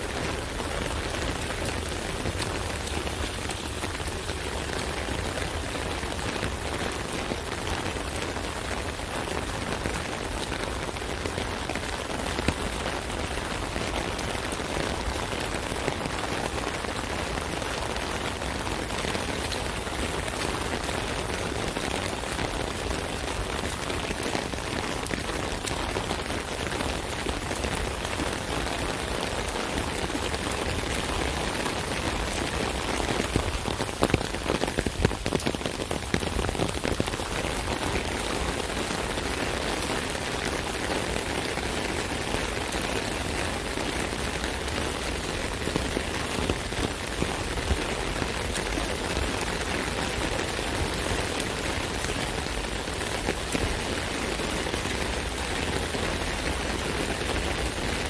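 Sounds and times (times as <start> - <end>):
rain drumming on an umbrella: 0.0 - 58.0.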